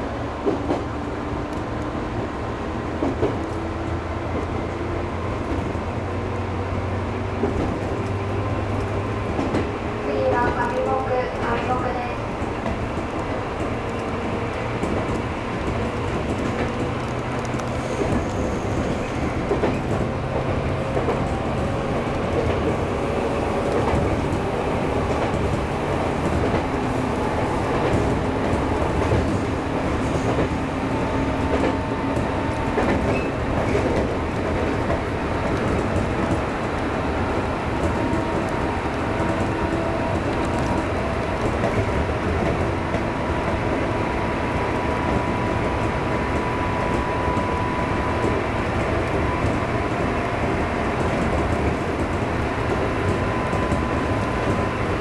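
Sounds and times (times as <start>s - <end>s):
train wheel-and-rail running noise: 0.0s - 55.0s.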